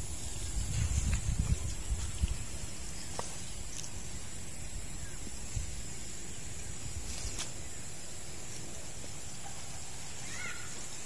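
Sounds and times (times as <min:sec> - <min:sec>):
high insect hum: 0:00.0 - 0:11.0.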